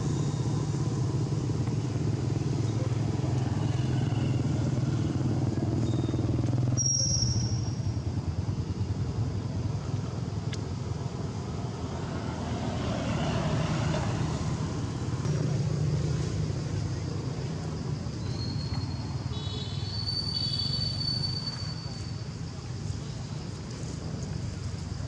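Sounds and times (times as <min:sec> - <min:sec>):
low rumble of vehicle traffic: 0:00.0 - 0:25.0.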